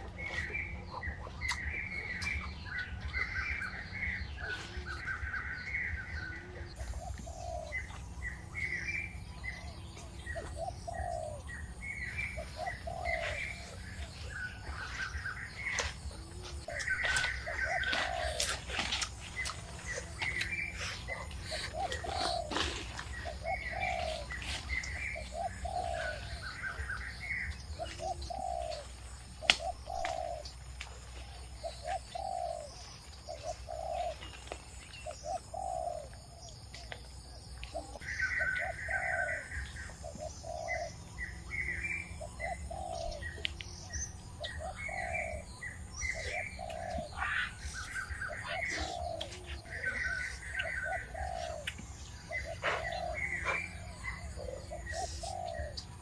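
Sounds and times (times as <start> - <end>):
higher bird chirping: 0.0 - 56.0.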